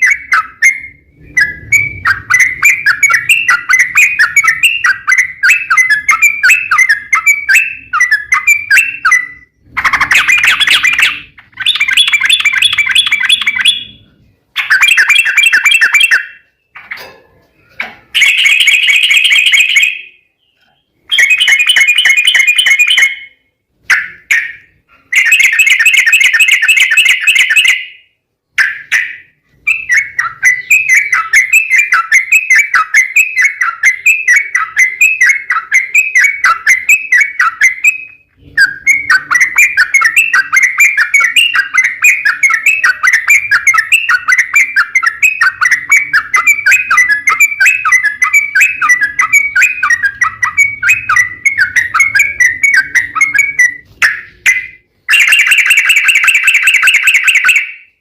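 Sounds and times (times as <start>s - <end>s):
bird chattering song: 0.0s - 58.0s.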